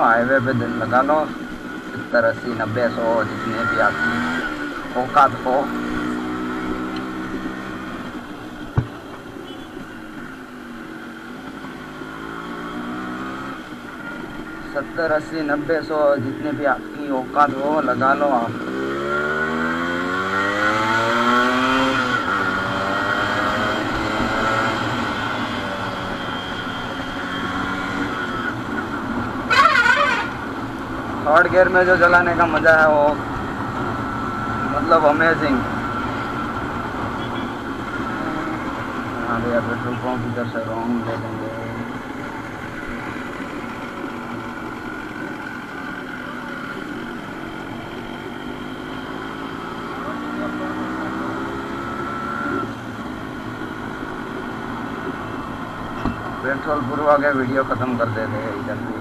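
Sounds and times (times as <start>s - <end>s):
two-stroke motorcycle engine revving: 0.0s - 9.6s, 10.8s - 59.0s.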